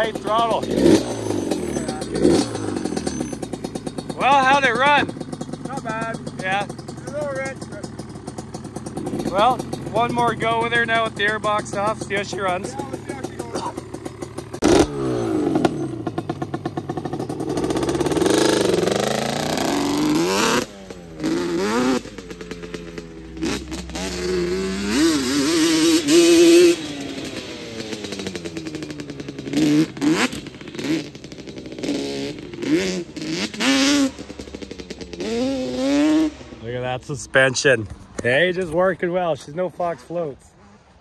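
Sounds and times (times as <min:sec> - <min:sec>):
two-stroke engine revving: 0:00.0 - 0:41.0.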